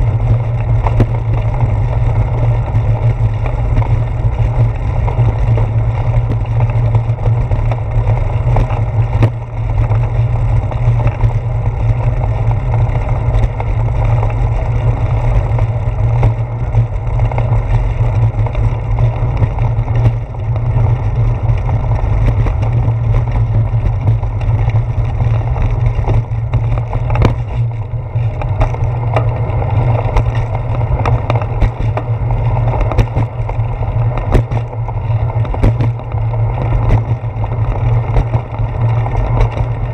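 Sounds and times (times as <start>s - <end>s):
bicycle tyres rumbling on pavers: 0.0s - 39.9s
clicks and knocks from bike: 0.0s - 39.9s.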